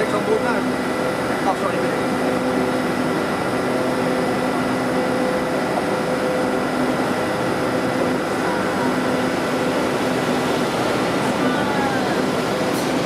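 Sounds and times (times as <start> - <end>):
diesel train engines humming: 0.0 - 13.0.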